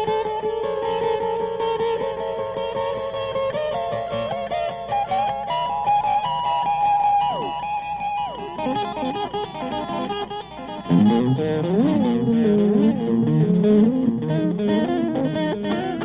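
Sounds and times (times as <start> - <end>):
electric guitar music with effects: 0.0 - 16.0.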